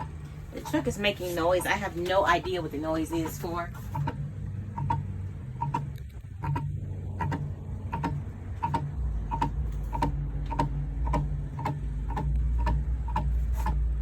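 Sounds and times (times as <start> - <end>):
fan ticking: 0.0 - 14.0
low rumble: 0.0 - 14.0.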